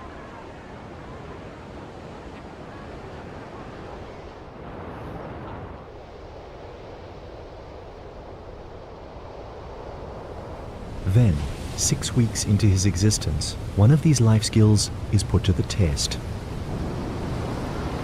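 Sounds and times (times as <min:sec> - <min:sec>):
ocean surf washing in: 0:00.0 - 0:18.0.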